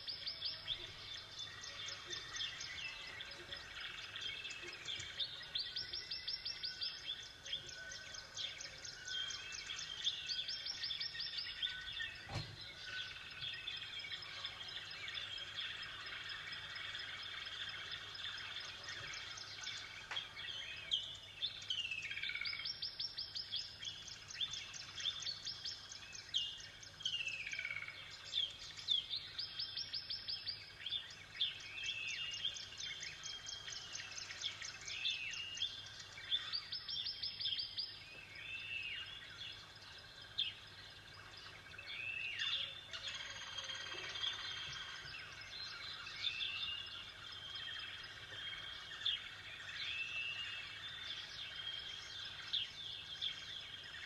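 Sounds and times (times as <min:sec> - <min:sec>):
songbird trills: 0:00.0 - 0:54.0.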